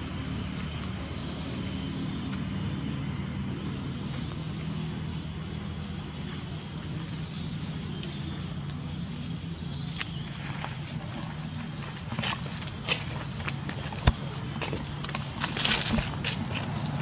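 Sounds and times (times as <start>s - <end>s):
engine running low hum: 0.0s - 17.0s.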